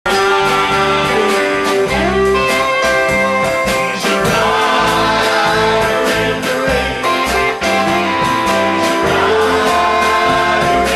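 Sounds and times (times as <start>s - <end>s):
country song with guitar: 0.1s - 10.9s.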